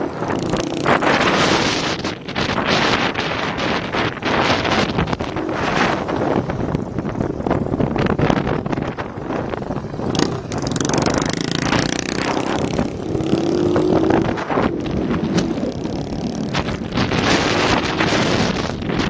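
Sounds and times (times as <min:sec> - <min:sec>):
motorcycle engines running: 0:00.0 - 0:19.0
wind noise on microphone: 0:00.0 - 0:19.0.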